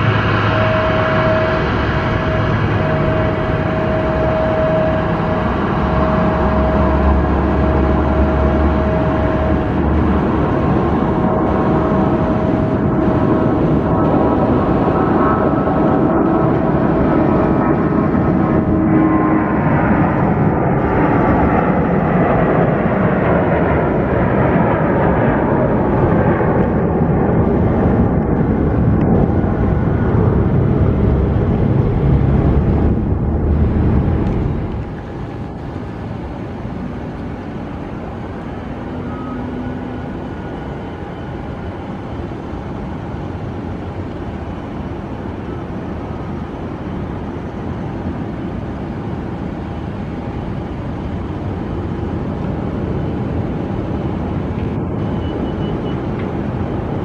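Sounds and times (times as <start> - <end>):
jet engines at takeoff thrust: 0.0 - 57.0
jet engines running at low power: 0.0 - 57.0.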